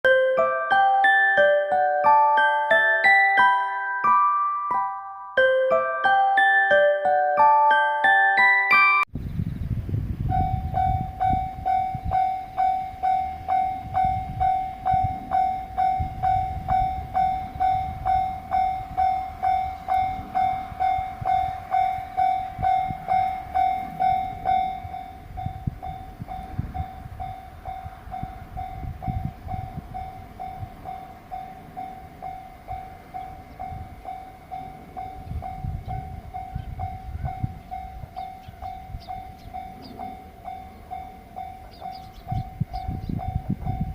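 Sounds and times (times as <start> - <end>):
level crossing bell ringing: 0.0 - 9.1, 10.4 - 43.9.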